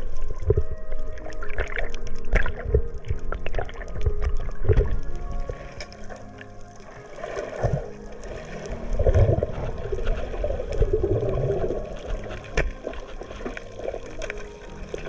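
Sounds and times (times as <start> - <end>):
underwater rushing and gurgling: 0.0 - 15.0.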